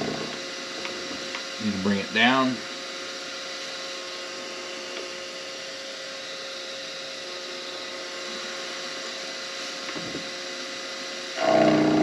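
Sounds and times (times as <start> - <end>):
milling machine motor humming: 0.0 - 12.0.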